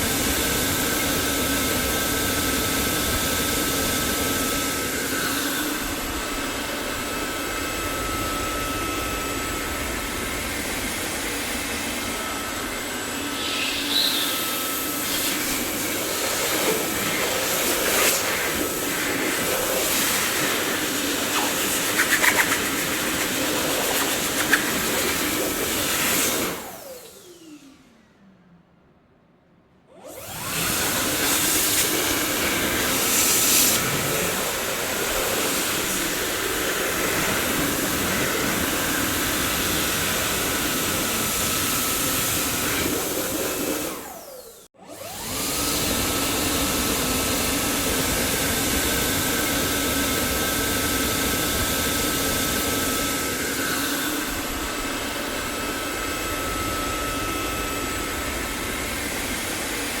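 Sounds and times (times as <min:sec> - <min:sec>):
vacuum cleaner running: 0:00.0 - 0:28.2, 0:29.9 - 1:00.0.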